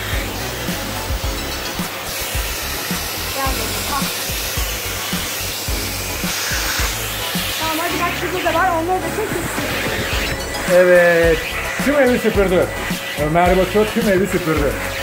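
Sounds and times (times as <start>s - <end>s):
background music with beat: 0.0s - 15.0s
vacuum cleaner running: 0.0s - 15.0s.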